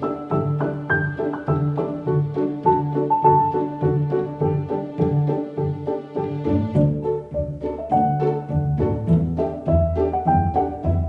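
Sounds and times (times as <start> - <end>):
plucked and bowed strings: 0.0 - 11.0.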